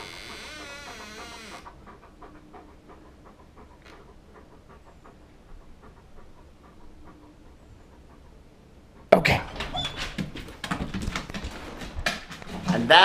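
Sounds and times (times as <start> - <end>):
dog panting: 0.0 - 12.9.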